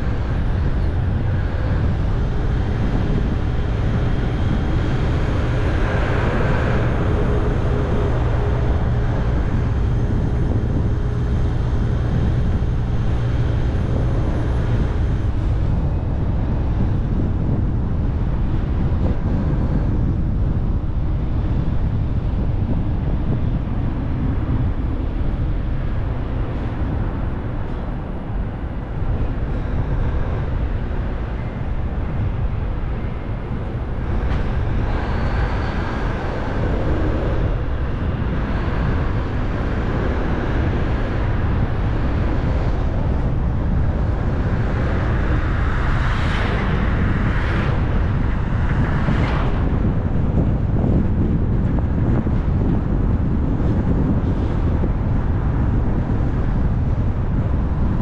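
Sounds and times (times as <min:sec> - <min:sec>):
car tyres and engine rumble: 0:00.0 - 0:58.0
wind noise: 0:00.0 - 0:58.0.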